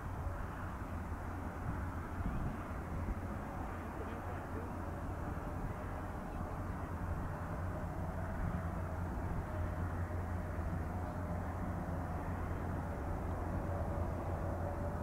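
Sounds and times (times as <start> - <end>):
faint engine hum: 0.0 - 15.0
jet engine low rumble: 0.0 - 15.0.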